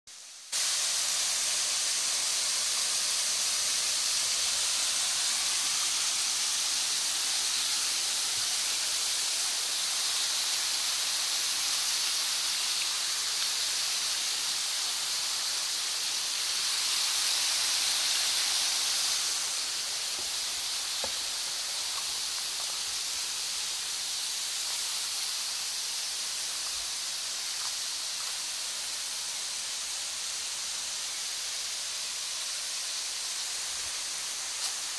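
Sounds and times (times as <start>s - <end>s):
waterfall splashing into pool: 0.1s - 34.9s.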